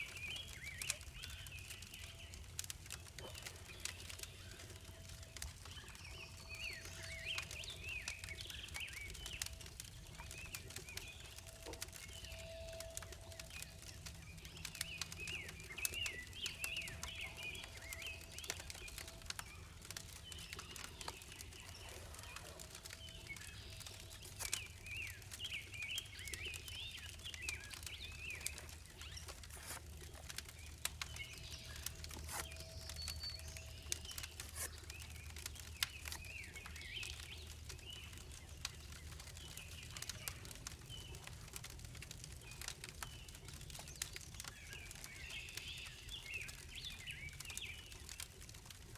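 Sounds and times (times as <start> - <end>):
songbirds chirping and singing: 0.0 - 48.9.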